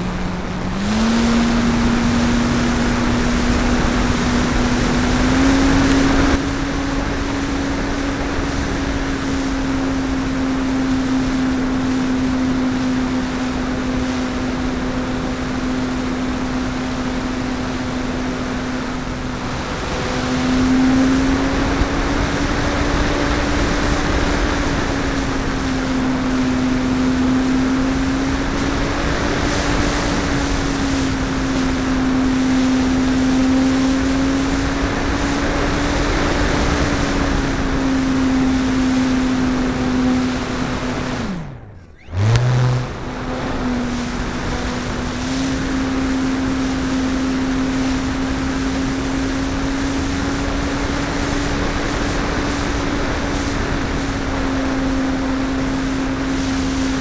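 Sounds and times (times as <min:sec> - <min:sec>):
air rushing over microphone: 0:00.0 - 0:57.0
electric motor and propeller humming: 0:00.0 - 0:57.0.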